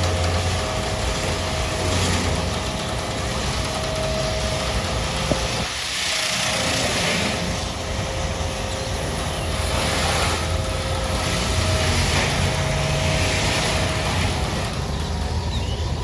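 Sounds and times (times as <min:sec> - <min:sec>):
hissing spray: 0:00.0 - 0:15.5
car wash machine hum: 0:00.0 - 0:16.0.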